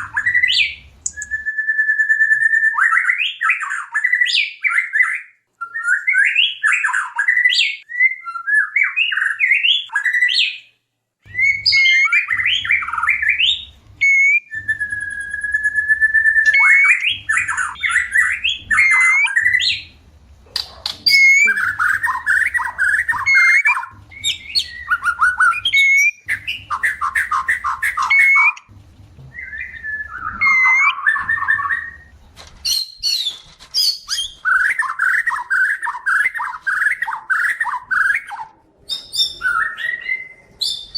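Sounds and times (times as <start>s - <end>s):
long level bird whistle: 0.0s - 10.7s, 11.3s - 19.9s, 21.1s - 28.7s, 29.4s - 38.3s
bird song with chirps and trills: 0.0s - 28.7s, 29.3s - 40.9s.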